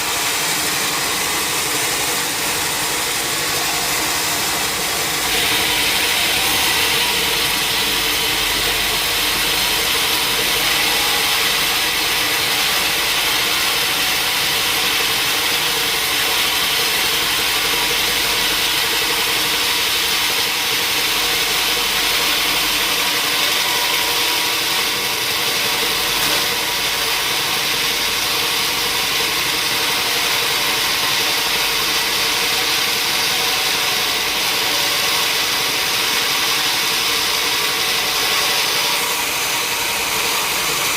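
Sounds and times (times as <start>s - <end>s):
sawmill saw hissing: 0.0s - 40.9s.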